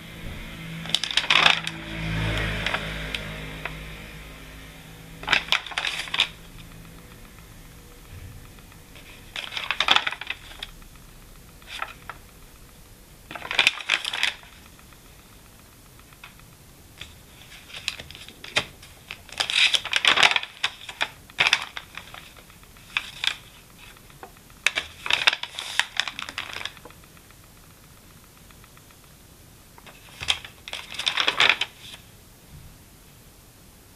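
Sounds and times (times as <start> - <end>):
notebook pages rustling: 0.2 - 4.0, 4.9 - 12.6, 13.3 - 27.1, 29.8 - 32.1.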